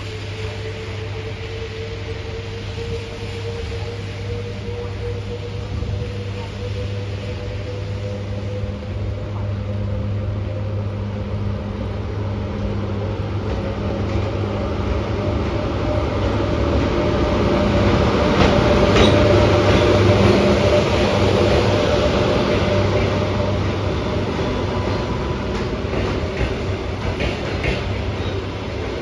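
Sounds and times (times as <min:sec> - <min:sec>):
electric locomotive hum: 0:00.0 - 0:29.0.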